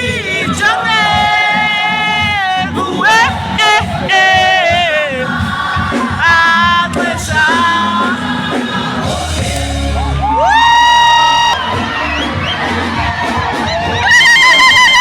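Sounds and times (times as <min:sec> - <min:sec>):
crowd noise: 0:00.0 - 0:15.0
group of voices singing: 0:00.0 - 0:15.0
music: 0:00.0 - 0:15.0.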